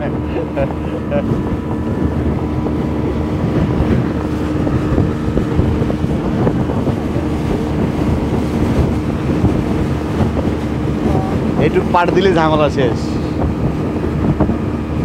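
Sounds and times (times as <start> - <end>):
outboard engine drone: 0.0 - 15.0
rushing water: 0.0 - 15.0
wind buffeting microphone: 0.0 - 15.0.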